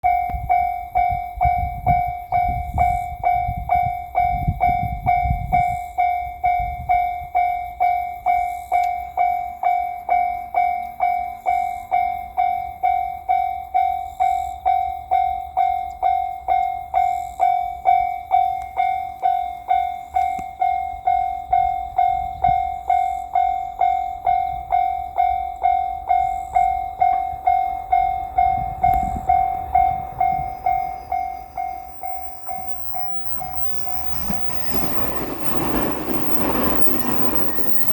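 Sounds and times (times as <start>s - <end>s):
level-crossing warning bell: 0.0s - 37.9s.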